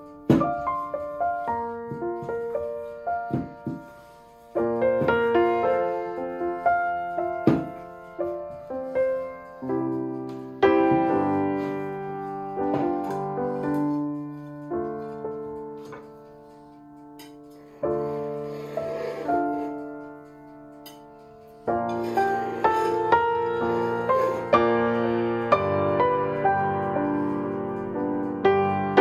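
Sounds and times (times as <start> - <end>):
slow solo piano piece: 0.0 - 29.0.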